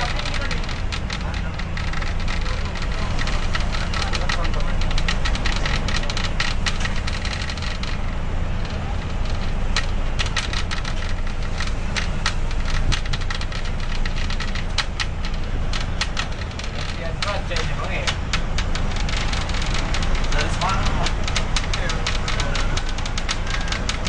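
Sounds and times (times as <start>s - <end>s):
sharp crackles and clicks: 0.0s - 24.0s.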